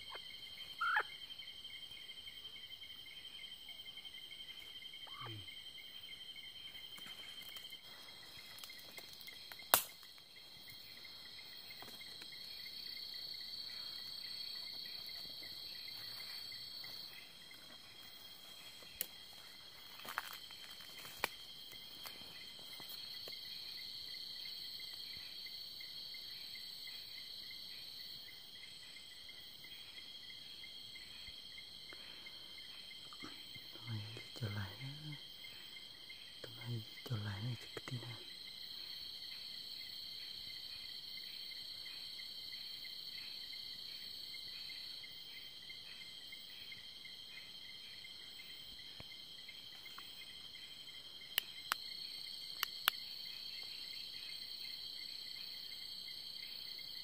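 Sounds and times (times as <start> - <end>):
night insects chirring: 0.0 - 57.0.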